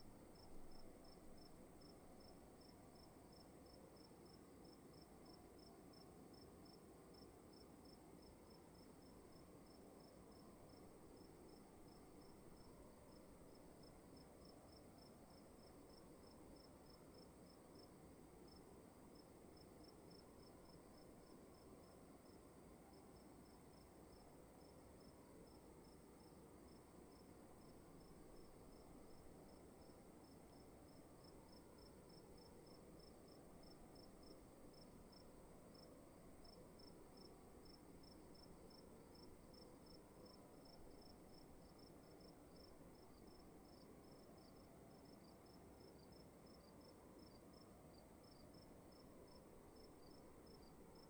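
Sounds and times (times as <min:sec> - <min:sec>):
cricket chirping: 0:00.0 - 0:51.0
low hiss: 0:00.0 - 0:51.0.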